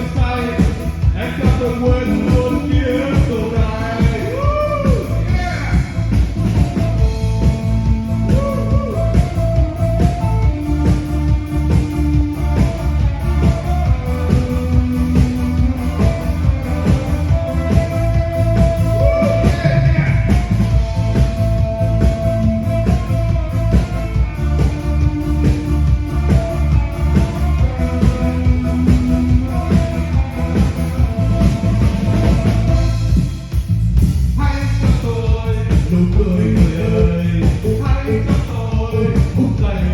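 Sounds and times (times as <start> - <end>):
heavy bass: 0.0 - 39.9
steady drum beat: 0.0 - 39.9.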